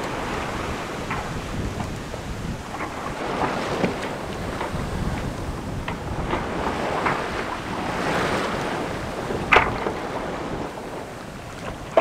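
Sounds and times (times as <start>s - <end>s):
sea water rushing past hull: 0.0s - 12.0s
wave slapping against bow: 0.0s - 12.0s
wind buffeting microphone: 0.0s - 12.0s.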